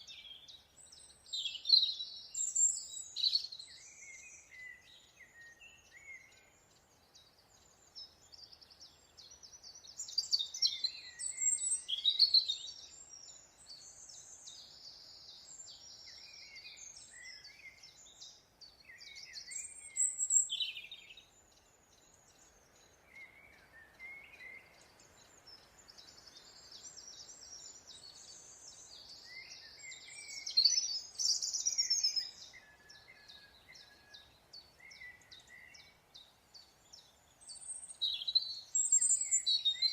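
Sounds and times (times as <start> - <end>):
birds singing and chirping: 0.0 - 39.9
faint background hiss: 0.0 - 39.9.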